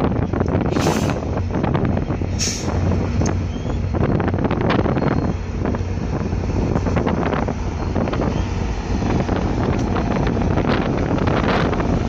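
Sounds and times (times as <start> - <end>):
train rumble: 0.0 - 12.0
wind buffeting microphone: 0.0 - 12.0.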